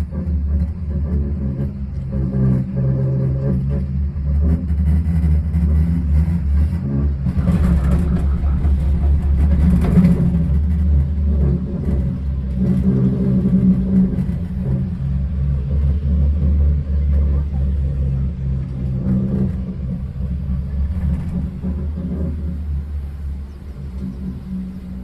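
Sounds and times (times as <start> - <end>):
cable car cabin rumble and hum: 0.0 - 25.0.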